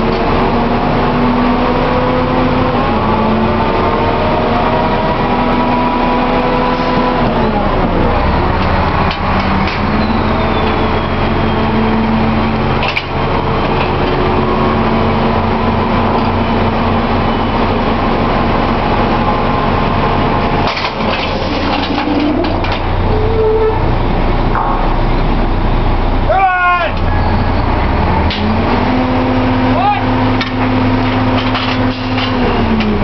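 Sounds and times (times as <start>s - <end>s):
drilling rig machinery drone: 0.0s - 33.0s.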